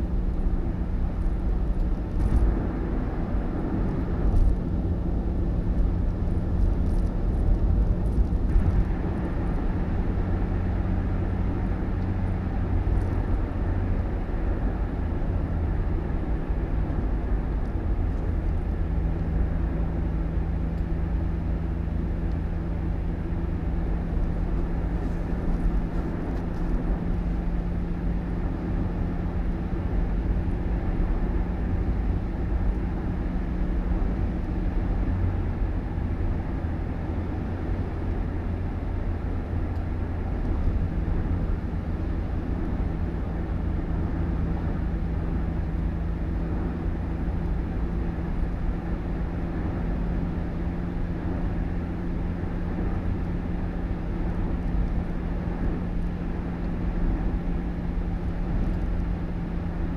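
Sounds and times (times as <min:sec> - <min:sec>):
moving vehicle rumble: 0:00.0 - 0:59.9.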